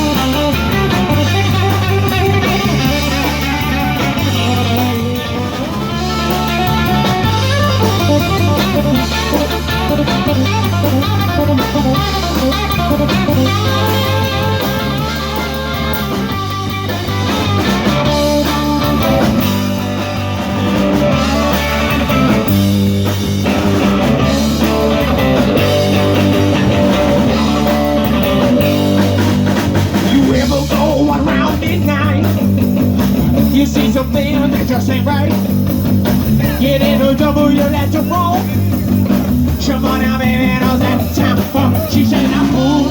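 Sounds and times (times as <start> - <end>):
drum kit: 0.0 - 42.9
electric guitar lines: 0.0 - 42.9
repeating bass line: 0.0 - 42.9.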